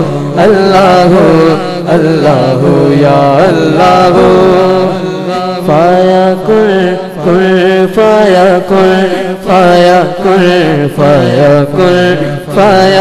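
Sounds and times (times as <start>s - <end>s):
young man singing into microphone: 0.0s - 13.0s.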